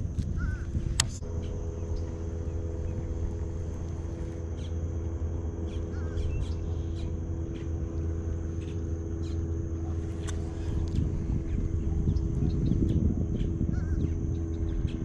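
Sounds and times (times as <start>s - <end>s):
steady mechanical hum: 0.0s - 15.0s
bird calls: 0.3s - 15.0s.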